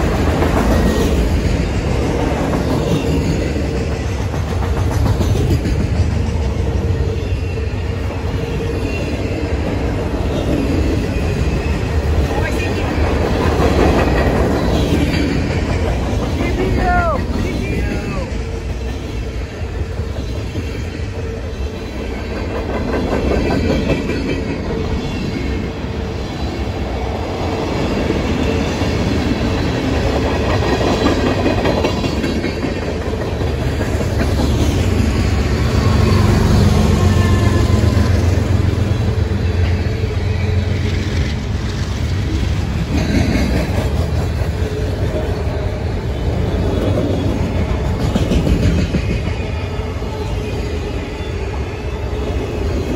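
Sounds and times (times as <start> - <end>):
wheels clacking over rail joints: 0.0 - 7.0, 9.7 - 25.8, 26.9 - 50.2
freight train rumbling past: 0.0 - 52.9.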